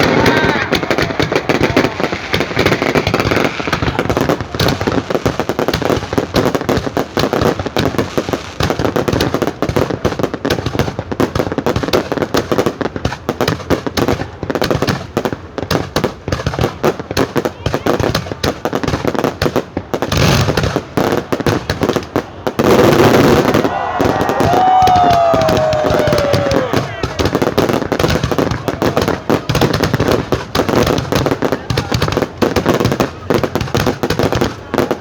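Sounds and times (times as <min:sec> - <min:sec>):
fireworks cracks and bangs: 0:00.0 - 0:35.0.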